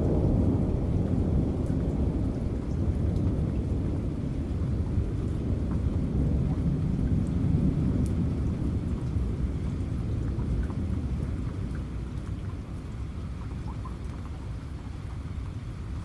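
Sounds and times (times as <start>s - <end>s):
low rumble of thunder: 0.0s - 16.0s
steady rain: 0.0s - 16.0s.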